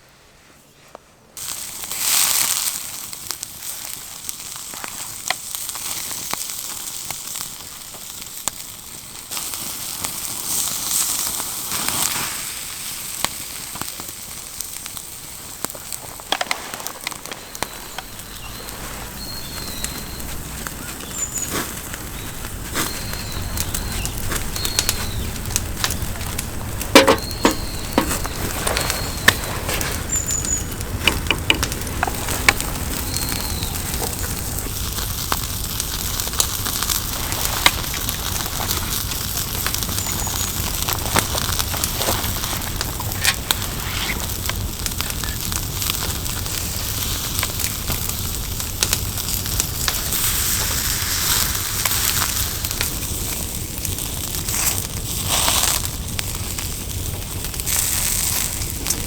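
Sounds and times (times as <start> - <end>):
campfire crackling and popping: 1.4 - 59.0.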